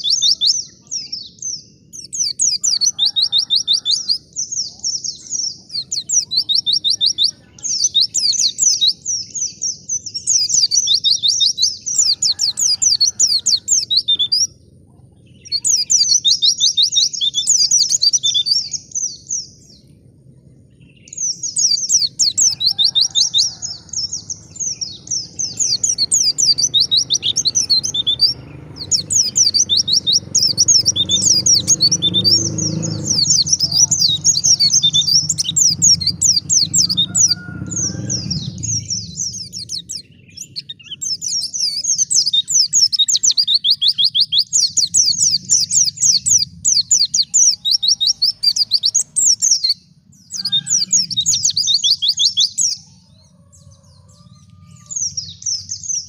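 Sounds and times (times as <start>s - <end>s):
bird twittering song: 0.0s - 56.0s
low background rumble: 0.0s - 56.0s.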